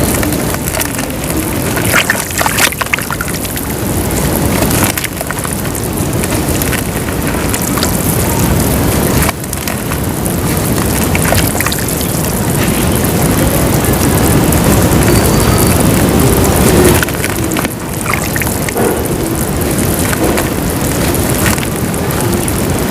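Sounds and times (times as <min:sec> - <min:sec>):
dirt dissolving in water fizzing: 0:00.0 - 0:22.9.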